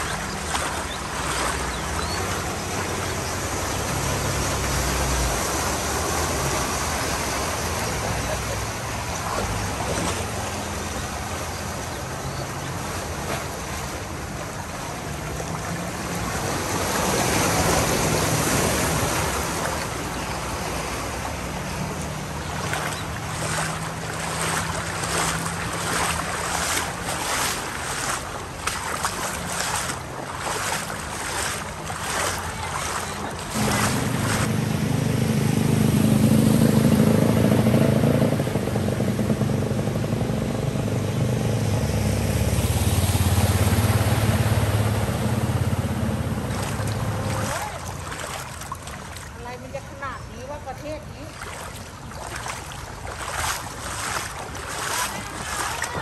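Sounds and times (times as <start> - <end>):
motorbike engine in water: 0.0 - 56.0
tyres pushing through floodwater: 0.0 - 56.0
vehicle engines running: 0.0 - 56.0
water splashes: 0.0 - 56.0.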